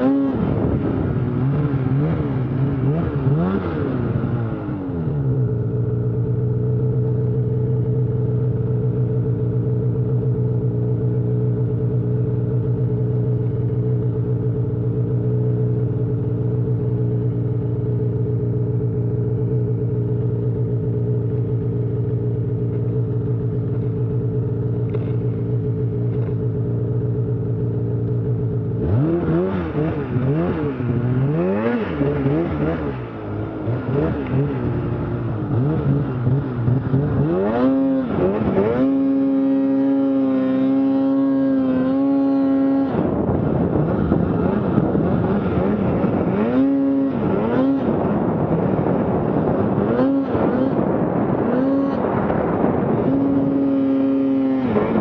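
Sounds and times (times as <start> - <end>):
snowmobile engine idling and revving: 0.0 - 55.0.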